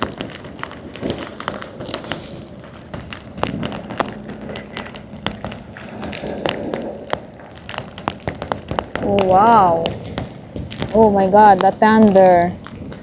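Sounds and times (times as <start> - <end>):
rain and wind rushing: 0.0 - 13.0
raindrops hitting microphone: 0.0 - 13.0.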